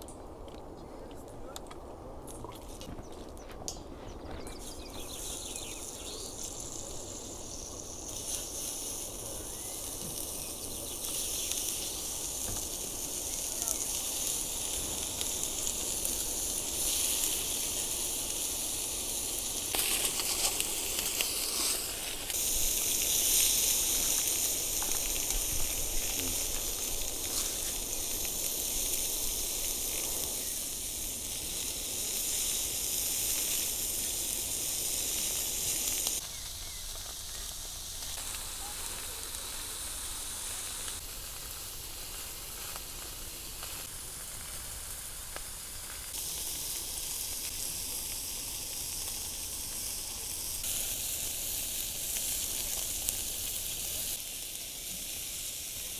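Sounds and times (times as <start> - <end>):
food sizzling: 2.3 - 55.9.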